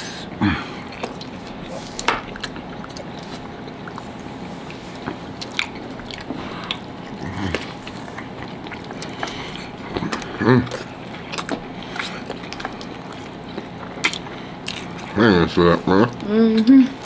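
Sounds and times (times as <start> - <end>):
person biting and chewing: 0.8 - 15.2.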